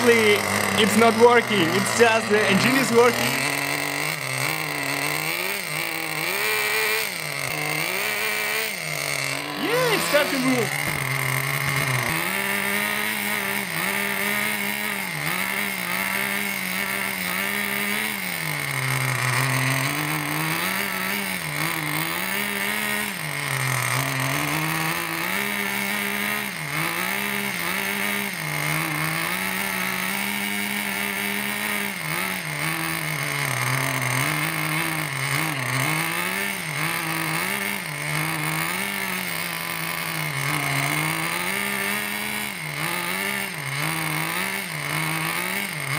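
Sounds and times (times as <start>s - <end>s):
small nitro engine revving: 0.0s - 45.9s.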